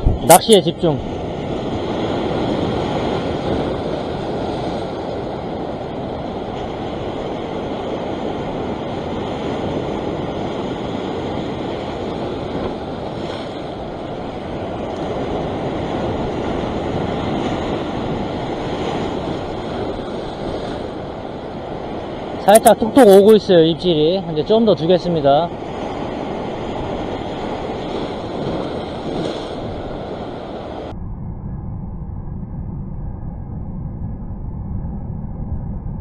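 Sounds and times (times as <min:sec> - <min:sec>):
sea surf washing over rocks: 0:00.0 - 0:30.9.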